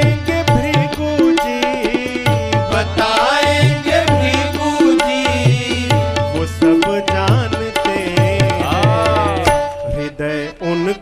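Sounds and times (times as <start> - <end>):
tabla rhythm with bass strokes: 0.0 - 10.9.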